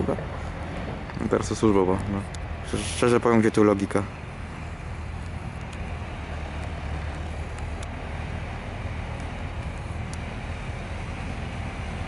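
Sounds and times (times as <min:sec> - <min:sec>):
train hum and running noise: 0:00.0 - 0:12.0.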